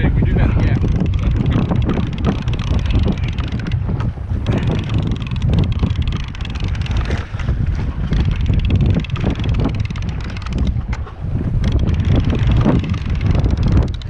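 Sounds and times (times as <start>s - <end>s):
wind buffeting microphone: 0.0s - 14.0s
small irregular clicks: 0.6s - 14.0s.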